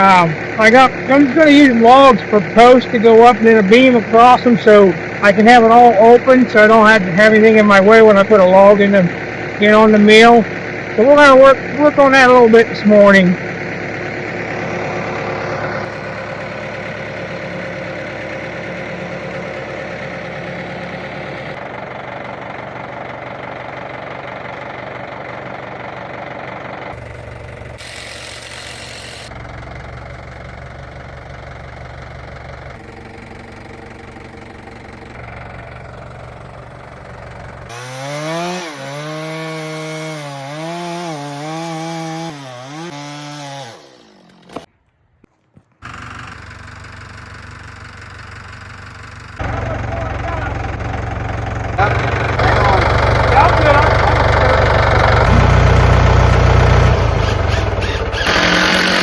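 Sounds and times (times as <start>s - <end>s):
engine throttling up and down: 0.0s - 44.7s, 45.8s - 59.0s
machinery engine running: 0.0s - 44.7s, 45.8s - 59.0s.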